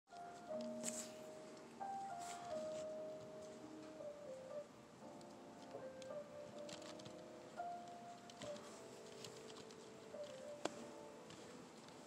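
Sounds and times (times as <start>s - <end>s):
slow melody of long held notes: 0.1s - 12.0s.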